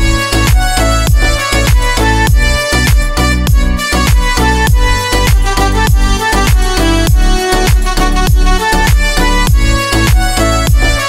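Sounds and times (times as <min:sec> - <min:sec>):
dance music: 0:00.0 - 0:11.0
deep kick drum: 0:00.0 - 0:11.0.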